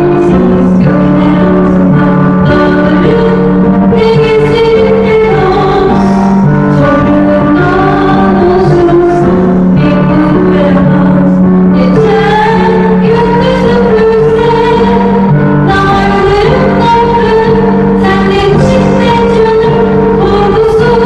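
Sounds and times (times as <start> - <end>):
digital piano: 0.0 - 21.0
woman singing slow song: 0.0 - 21.0.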